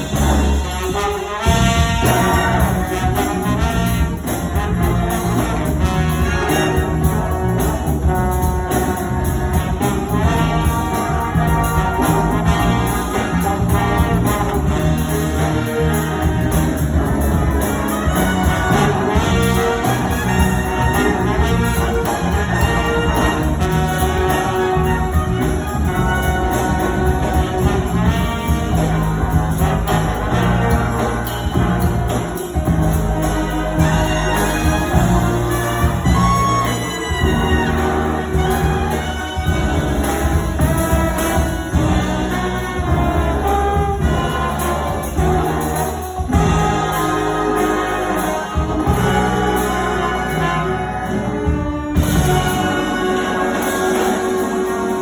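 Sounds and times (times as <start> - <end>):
big band playing jazz: 0.0 - 55.0.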